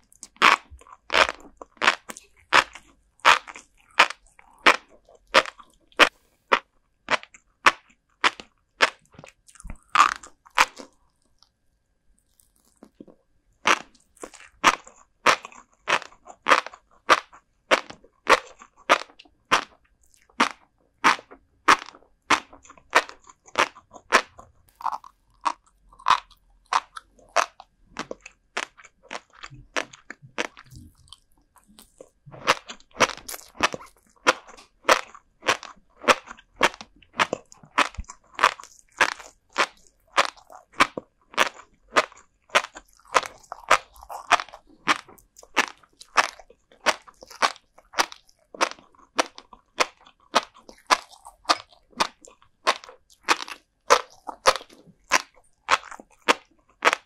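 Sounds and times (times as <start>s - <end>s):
crunchy chewing: 0.0s - 11.6s, 12.2s - 57.0s.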